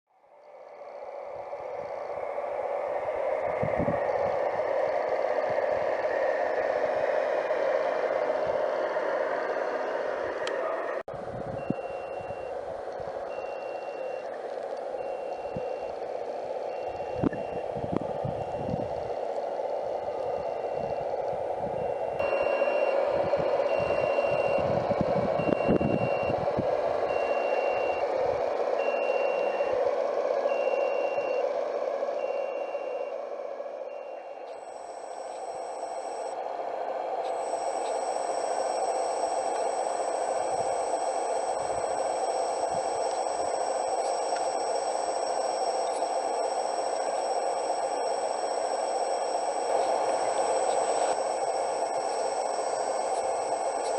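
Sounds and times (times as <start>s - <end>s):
model excavator truck droning: 0.2s - 53.9s
reversing beeper: 0.6s - 53.9s.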